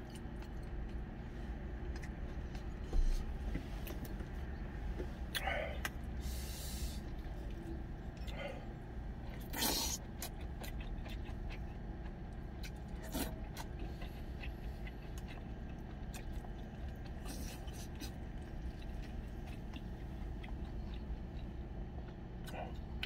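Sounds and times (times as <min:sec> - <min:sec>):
chewing: 0:00.0 - 0:04.6, 0:05.3 - 0:06.0, 0:07.0 - 0:23.0
low steady hum: 0:00.0 - 0:23.0.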